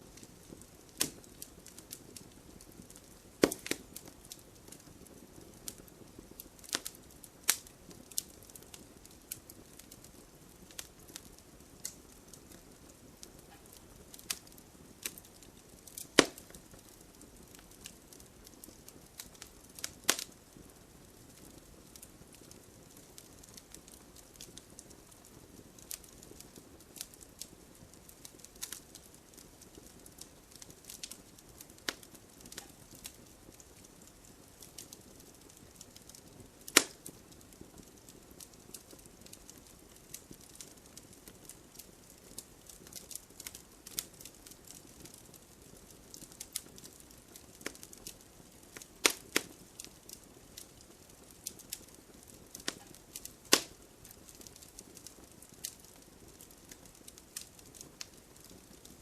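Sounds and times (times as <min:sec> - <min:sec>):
faint steady hiss: 0:00.0 - 0:59.0
wood fire crackling and popping: 0:00.0 - 0:59.0.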